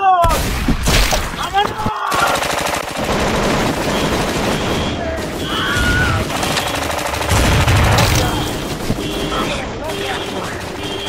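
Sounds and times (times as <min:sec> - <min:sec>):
machine gun automatic fire: 0:02.1 - 0:11.0.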